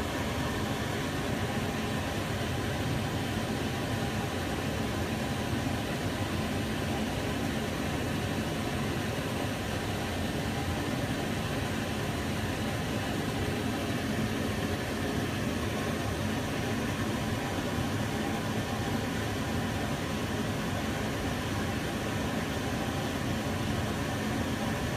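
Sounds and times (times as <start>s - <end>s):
range hood extractor fan running: 0.0s - 24.9s.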